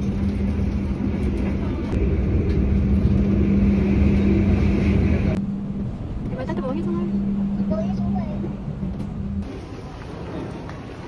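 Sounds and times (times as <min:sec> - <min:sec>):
low hum: 0:00.0 - 0:11.0
train rumble inside carriage: 0:00.0 - 0:11.0.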